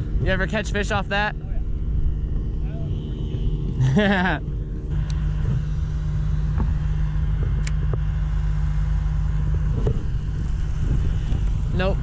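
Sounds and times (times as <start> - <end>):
wind buffeting microphone: 0.0 - 8.4, 9.2 - 12.0.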